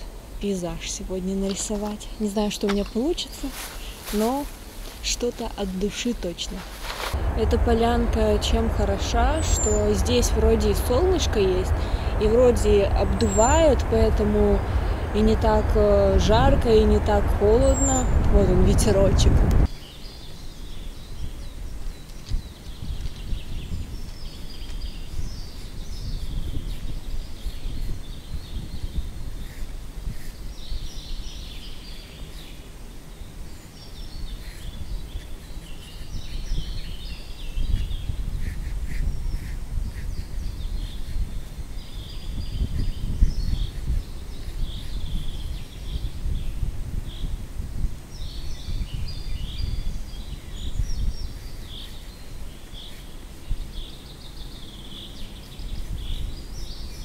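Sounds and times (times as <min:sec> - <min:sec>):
small birds chirping: 0:00.0 - 0:47.4, 0:48.0 - 0:57.0
wind buffeting microphone: 0:01.1 - 0:19.7, 0:21.2 - 0:32.6, 0:33.8 - 0:57.0.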